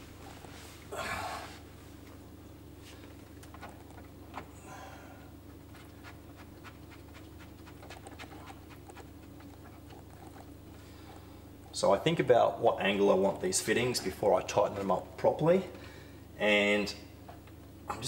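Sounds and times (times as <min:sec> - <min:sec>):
equipment humming: 0:00.0 - 0:18.0.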